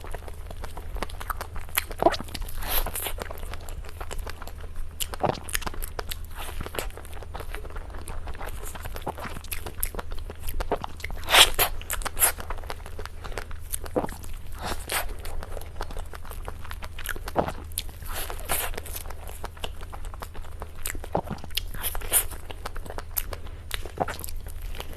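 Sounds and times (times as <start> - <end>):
low electrical hum: 0.0 - 24.9
person chewing crunchy cake: 0.0 - 24.9.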